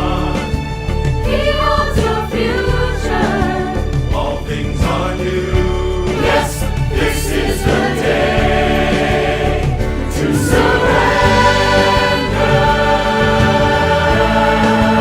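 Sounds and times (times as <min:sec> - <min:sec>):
group of voices singing: 0:00.0 - 0:15.0
instrumental accompaniment: 0:00.0 - 0:15.0.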